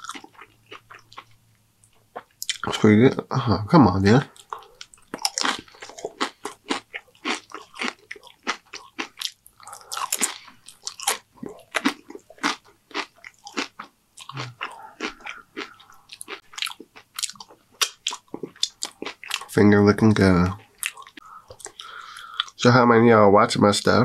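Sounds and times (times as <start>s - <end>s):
chewing crisp chips: 0.0s - 2.8s, 4.3s - 22.6s.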